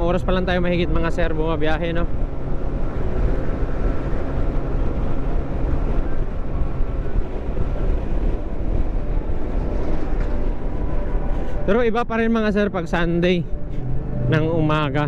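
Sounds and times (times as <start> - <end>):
road noise: 0.0 - 15.0
wind rumbling on microphone: 0.0 - 15.0.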